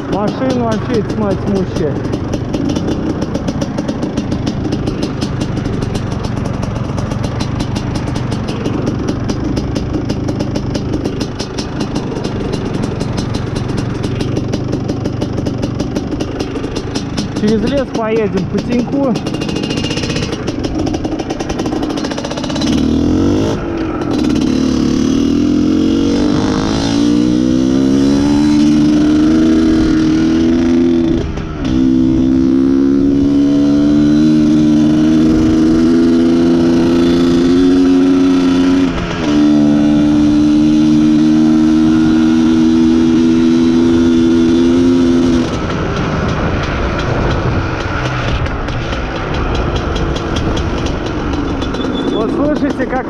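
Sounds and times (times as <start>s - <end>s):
two-stroke motorcycle engine accelerating: 0.0s - 53.0s.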